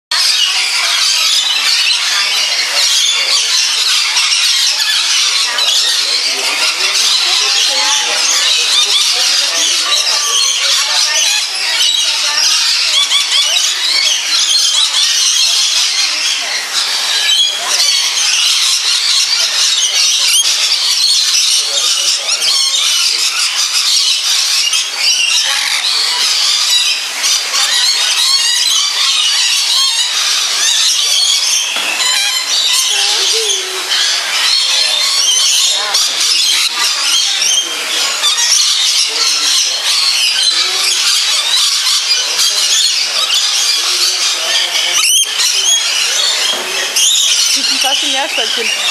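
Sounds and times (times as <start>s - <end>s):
parrots screeching and chattering: 0.1s - 48.9s.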